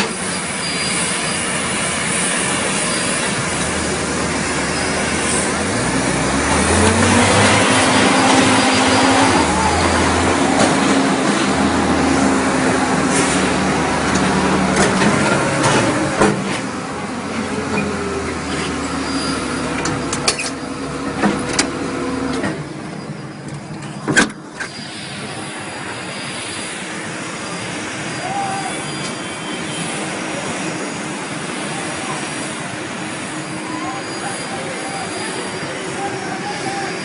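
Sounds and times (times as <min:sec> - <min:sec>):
engine hum and rush: 0:00.0 - 0:37.0.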